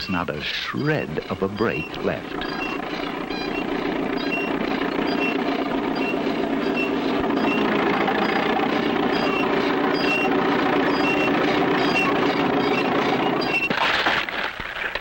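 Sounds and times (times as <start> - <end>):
road roller engine running: 0.4 - 14.4
short high squeaks: 0.8 - 14.3.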